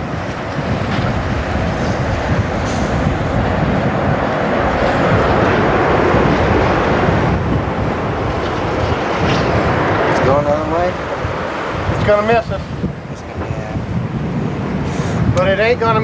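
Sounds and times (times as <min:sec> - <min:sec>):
tornado wind rushing: 0:00.0 - 0:16.0
wind buffeting microphone: 0:00.0 - 0:16.0.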